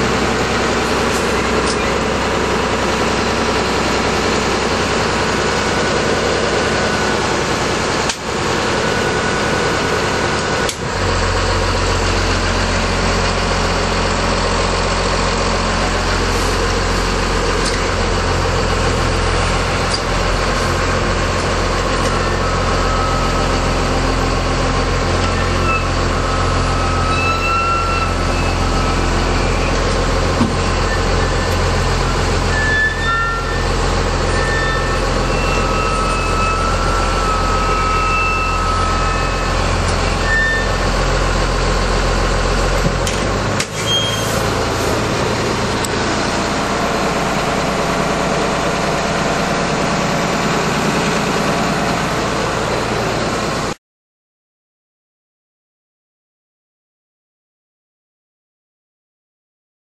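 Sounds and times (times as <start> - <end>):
diesel engine running: 0.0 - 53.8.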